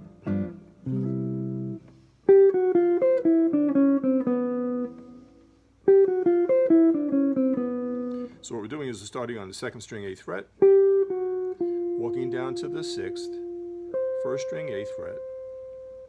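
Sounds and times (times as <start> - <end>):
jazz guitar: 0.0 - 9.0, 10.3 - 16.0.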